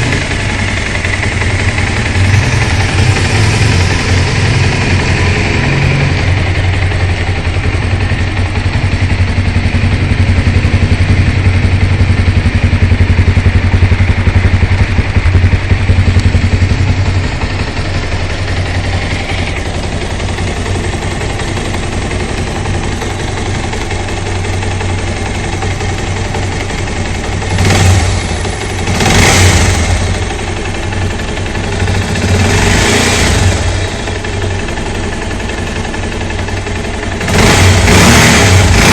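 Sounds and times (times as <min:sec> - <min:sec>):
motorcycle throttle revs: 0:00.0 - 0:08.0, 0:08.8 - 0:34.6, 0:37.1 - 0:38.9
motorcycle engine idling: 0:00.0 - 0:38.9.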